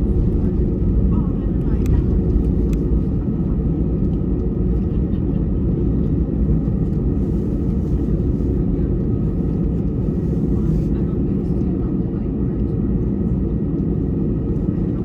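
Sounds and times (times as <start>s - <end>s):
jet engines deep rumble: 0.0s - 15.0s.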